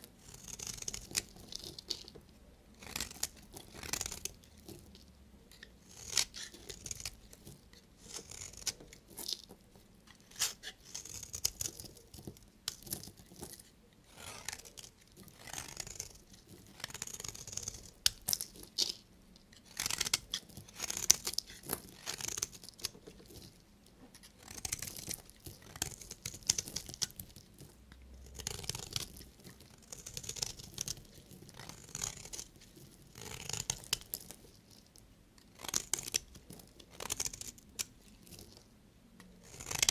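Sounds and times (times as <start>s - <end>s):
knife scraping through soap: 0.2s - 2.2s, 2.8s - 4.9s, 5.5s - 34.5s, 35.6s - 38.5s, 39.4s - 39.9s.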